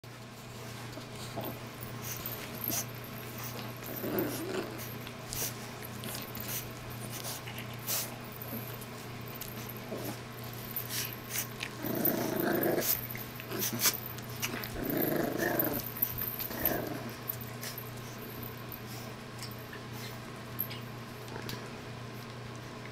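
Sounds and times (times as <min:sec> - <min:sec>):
puppies growling in play: 0:00.3 - 0:22.8.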